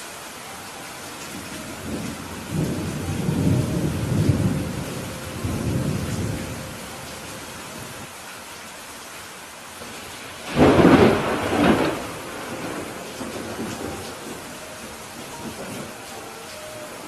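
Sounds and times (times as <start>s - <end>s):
rain on a roof: 0.0s - 17.0s
thunder rumbling: 1.3s - 8.0s, 9.8s - 17.0s.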